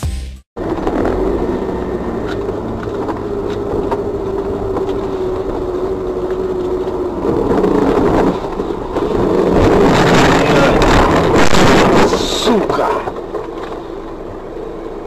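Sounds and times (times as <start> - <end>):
car engine and road noise: 0.5 - 15.0.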